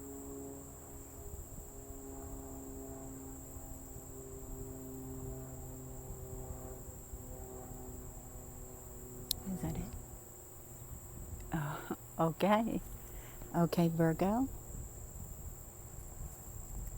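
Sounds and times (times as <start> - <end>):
insects trilling: 0.0 - 16.9
low hum: 0.0 - 16.9.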